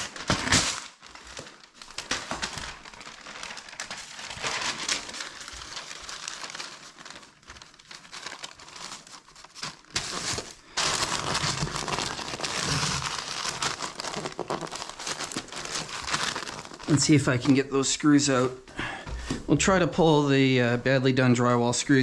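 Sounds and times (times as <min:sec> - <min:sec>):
sheet material crinkling: 0:00.0 - 0:17.6.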